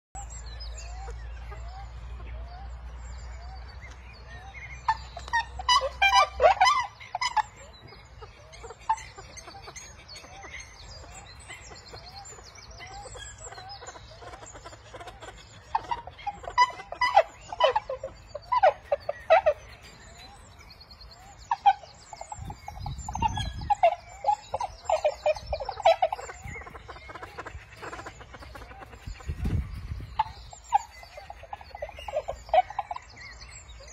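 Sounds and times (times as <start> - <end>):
terns squawking: 4.7 - 33.9.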